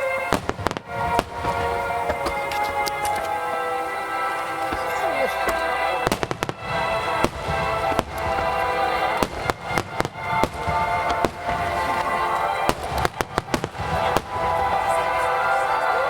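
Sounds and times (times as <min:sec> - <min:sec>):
fireworks bursting: 0:00.0 - 0:16.0
music: 0:00.0 - 0:16.0.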